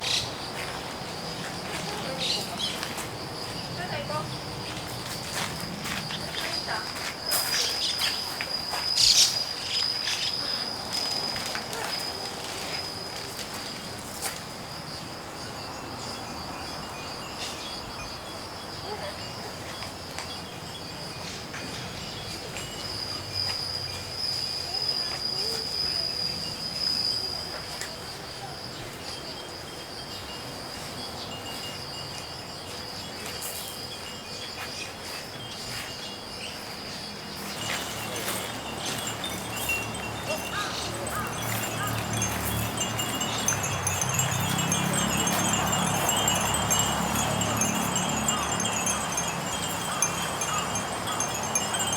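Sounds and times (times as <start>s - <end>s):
insects trilling: 0.0s - 51.9s
wind chimes tinkling: 0.0s - 51.9s.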